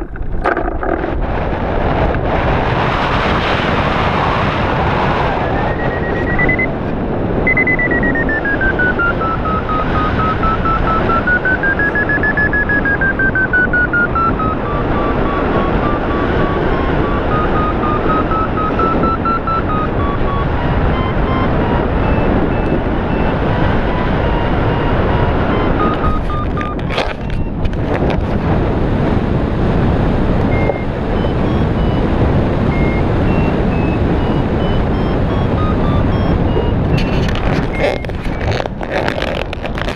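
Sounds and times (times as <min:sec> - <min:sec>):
wind noise on microphone: 0:00.0 - 0:39.9
variometer beeping: 0:05.2 - 0:28.4, 0:29.9 - 0:39.9.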